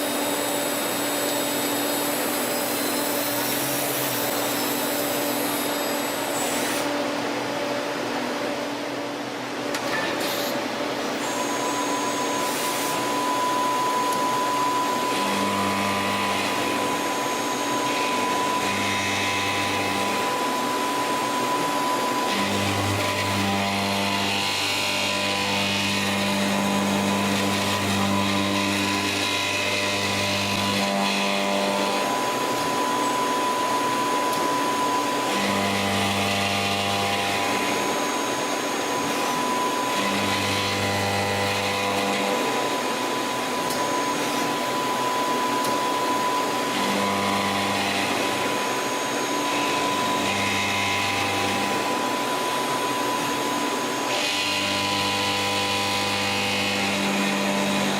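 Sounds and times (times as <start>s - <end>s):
lathe machine high tone: 0.0s - 8.6s, 9.8s - 57.9s.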